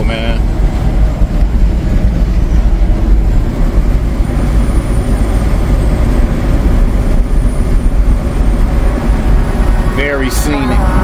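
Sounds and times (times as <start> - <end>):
diesel truck engine drone: 0.0 - 11.0
tyre and road noise: 0.0 - 11.0.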